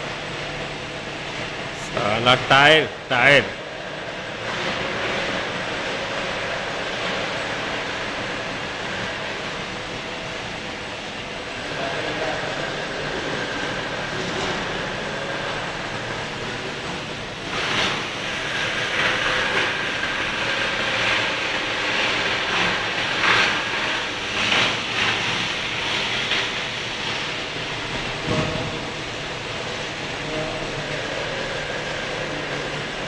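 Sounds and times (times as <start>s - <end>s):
machine hum and hiss: 0.0s - 33.0s.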